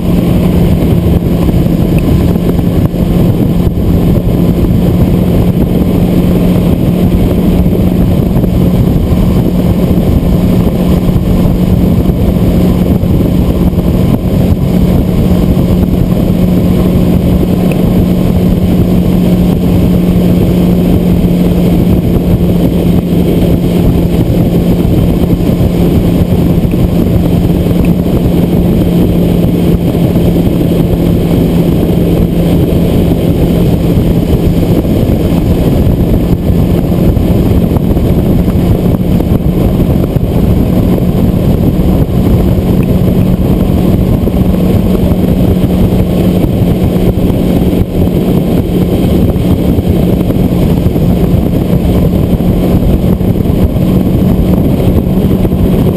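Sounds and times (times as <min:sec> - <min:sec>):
outboard motor droning: 0:00.0 - 0:55.9
wind and water rushing: 0:00.0 - 0:55.9.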